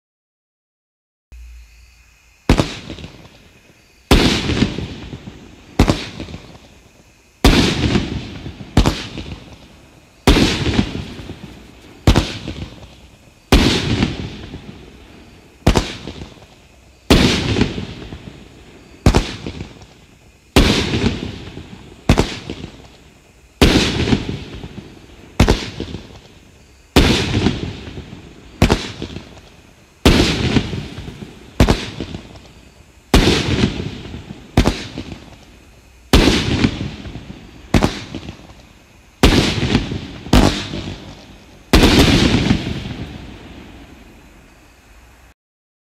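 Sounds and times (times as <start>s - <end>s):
fireworks cake bangs: 2.5s - 6.8s, 7.4s - 23.0s, 23.6s - 43.9s.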